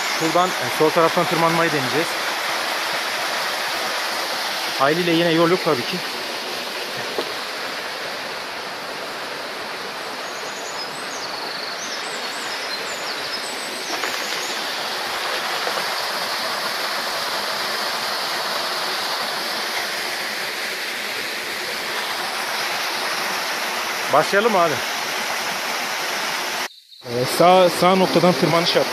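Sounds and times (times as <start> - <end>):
stream rushing over rocks: 0.0 - 28.9.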